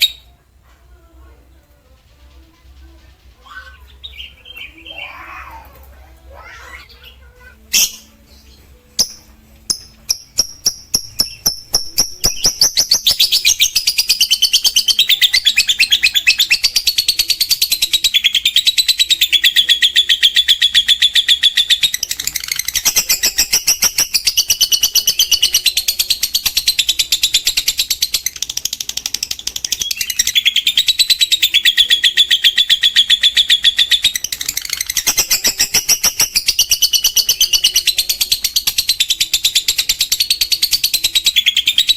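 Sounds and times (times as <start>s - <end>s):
lovebird chattering trill: 2.3s - 41.9s.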